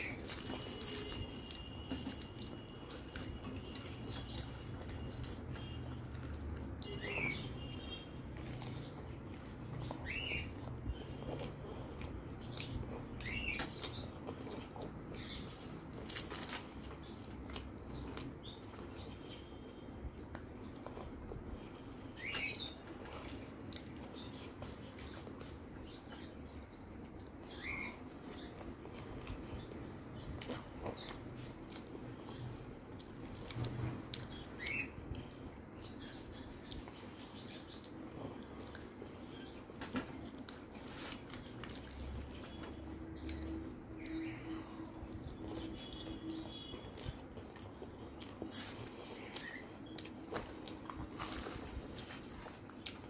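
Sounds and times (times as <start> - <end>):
person chewing food: 0.0 - 53.0.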